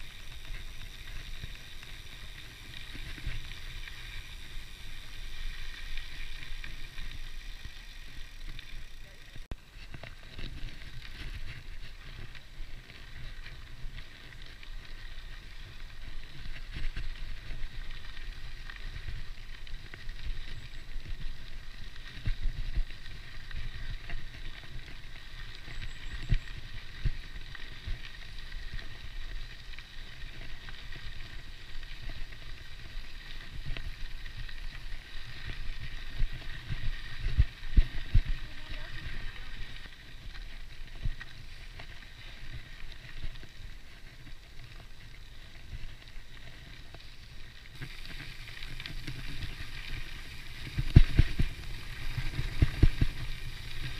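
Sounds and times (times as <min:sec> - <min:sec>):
bike tyres crunching on gravel: 0:00.0 - 0:53.9
loose gravel clicks: 0:00.0 - 0:53.9.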